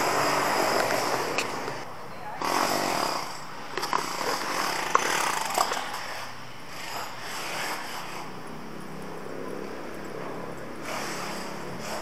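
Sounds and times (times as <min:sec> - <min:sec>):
traffic hiss: 0:00.0 - 0:12.0.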